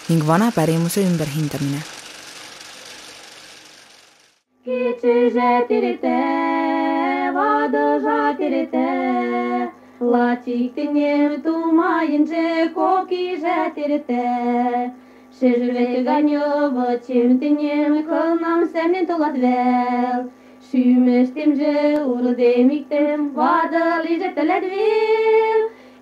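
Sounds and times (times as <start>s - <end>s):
woman singing unaccompanied: 4.6s - 25.7s.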